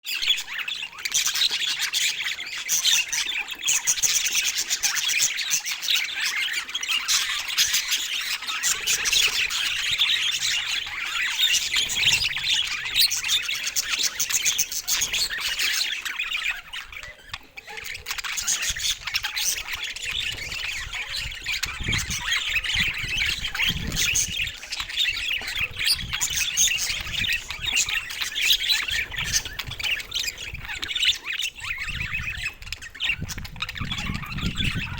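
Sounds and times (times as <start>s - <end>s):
budgerigars chattering: 0.1s - 34.9s.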